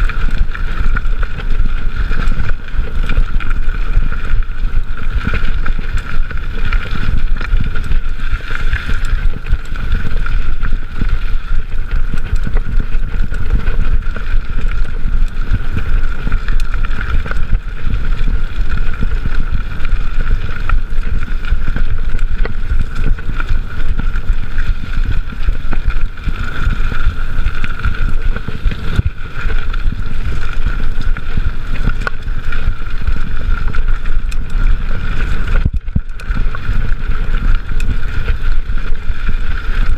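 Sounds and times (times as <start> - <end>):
bike rattling on bumpy trail: 0.0 - 39.9
bike tyre noise: 0.0 - 39.9
wind buffeting microphone: 0.0 - 39.9.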